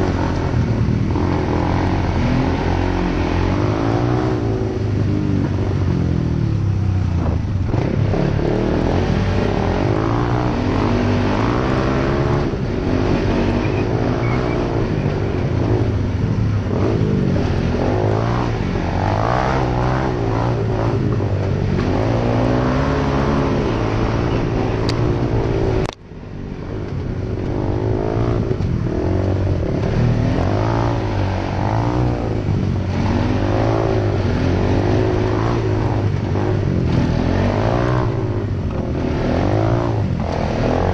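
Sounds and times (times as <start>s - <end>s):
atv engine revving: 0.0s - 26.0s, 26.7s - 40.9s.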